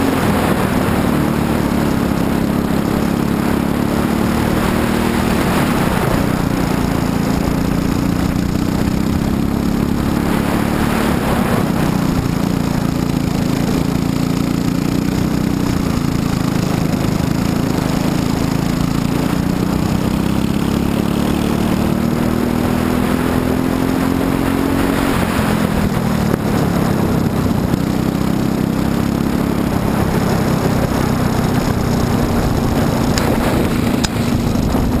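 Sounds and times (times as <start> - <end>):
kart engine racing: 0.0 - 35.0.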